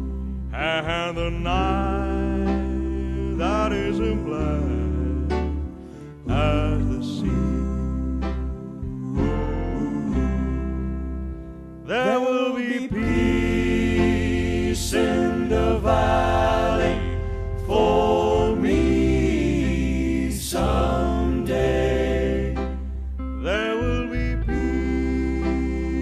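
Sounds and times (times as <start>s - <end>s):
choir singing in harmony: 0.0s - 11.2s, 11.9s - 26.0s
bass and instrumental backing: 0.0s - 12.1s, 12.8s - 26.0s.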